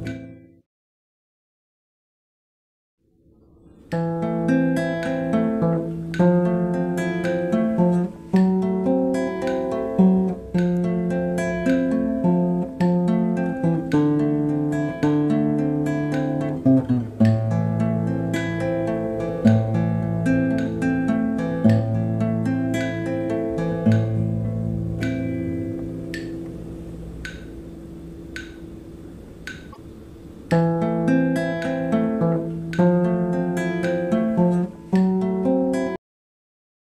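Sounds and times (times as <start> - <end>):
acoustic guitar music: 0.0 - 0.6, 3.6 - 36.0.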